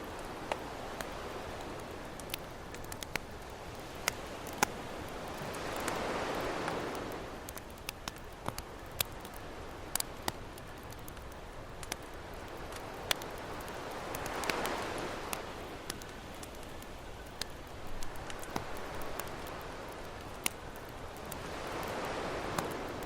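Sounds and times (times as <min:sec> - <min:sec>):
campfire crackling and popping: 0:00.0 - 0:23.0
ocean waves washing ashore: 0:00.0 - 0:23.0.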